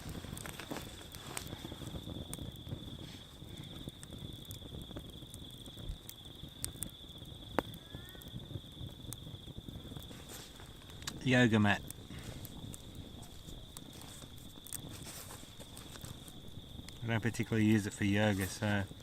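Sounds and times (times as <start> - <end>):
campfire crackling and popping: 0.0 - 19.0
insect trilling: 3.6 - 19.0.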